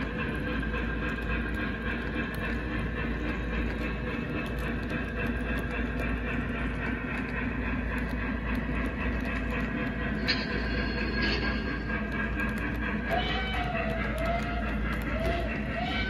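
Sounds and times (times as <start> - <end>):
model train wheels rumbling: 0.0 - 16.0.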